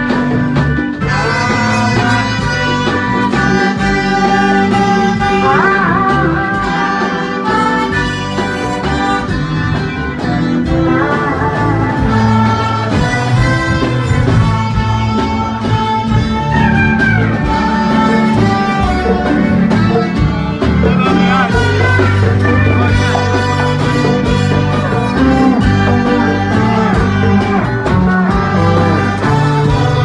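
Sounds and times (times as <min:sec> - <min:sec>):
instruments playing held notes: 0:00.0 - 0:30.0
steady bass line: 0:00.0 - 0:30.0.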